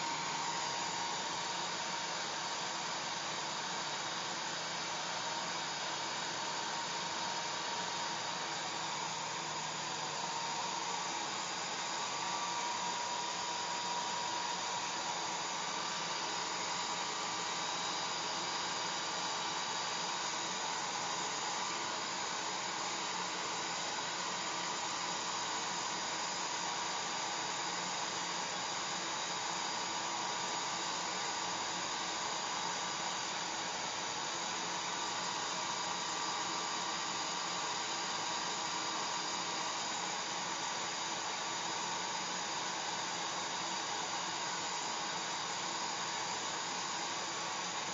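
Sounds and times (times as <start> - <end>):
hair dryer blowing air: 0.0 - 47.9.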